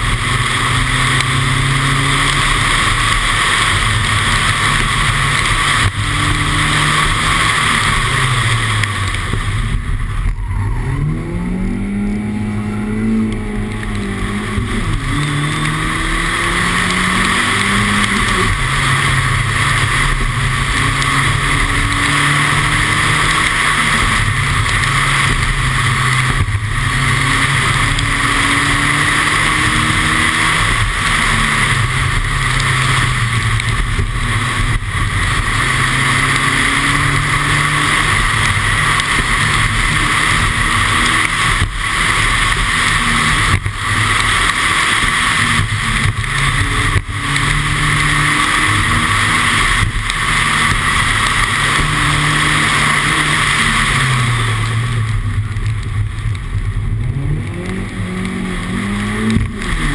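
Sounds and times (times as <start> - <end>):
car engine revving: 0.0 - 59.9
tyres hissing on wet road: 0.0 - 59.9.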